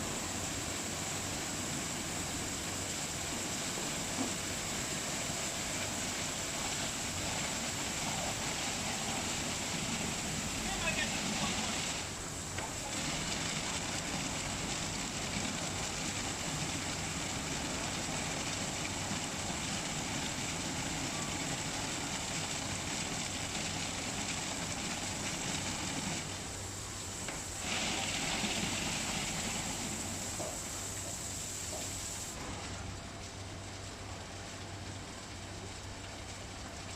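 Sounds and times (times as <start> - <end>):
car washing machine running: 0.0 - 36.9.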